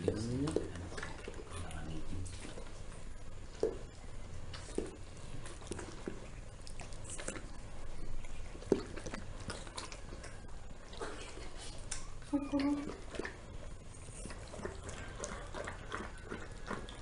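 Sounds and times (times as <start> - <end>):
dog licking and chewing: 0.0 - 17.0.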